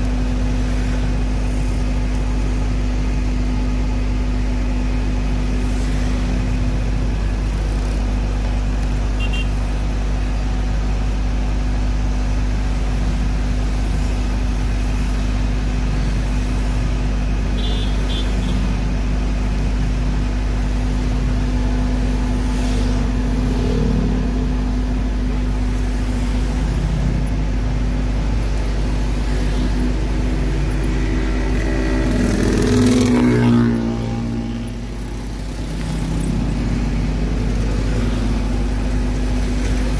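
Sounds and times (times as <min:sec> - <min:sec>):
fire engine motor running: 0:00.0 - 0:39.9.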